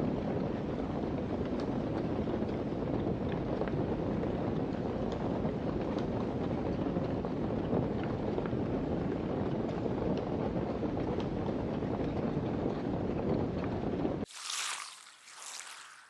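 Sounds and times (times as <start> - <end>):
small fire crackles: 0.0 - 16.0.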